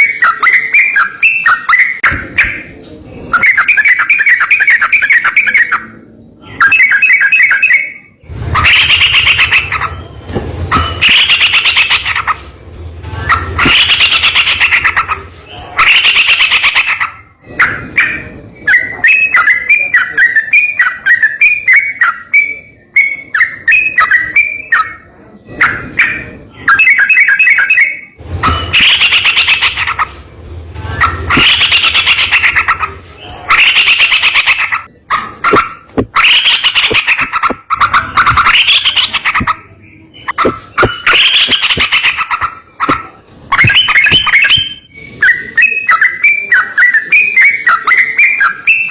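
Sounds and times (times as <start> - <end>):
bird singing harsh phrases: 0.0 - 12.5, 13.2 - 30.2, 31.0 - 48.9.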